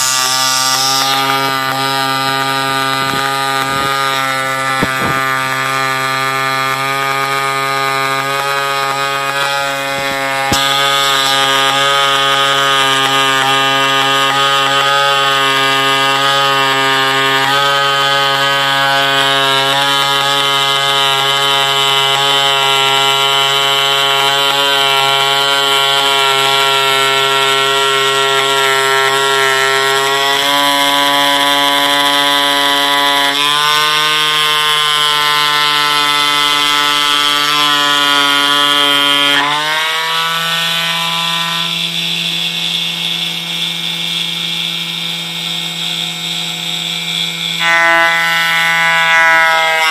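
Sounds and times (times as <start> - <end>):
foam cutter mechanical buzz: 0.0 - 49.9.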